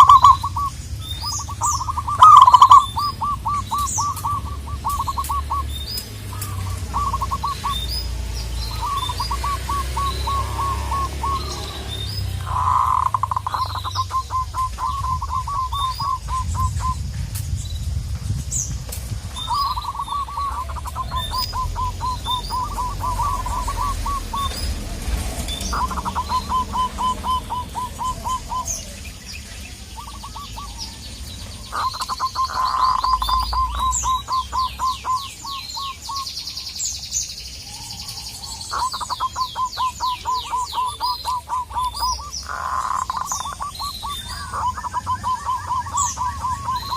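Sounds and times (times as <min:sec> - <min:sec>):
fast high bird trill: 0:00.0 - 0:17.1, 0:19.3 - 0:36.5, 0:37.8 - 0:46.9
doves cooing: 0:00.0 - 0:17.2, 0:18.8 - 0:36.3, 0:37.6 - 0:46.9
small birds chirping: 0:00.0 - 0:46.9.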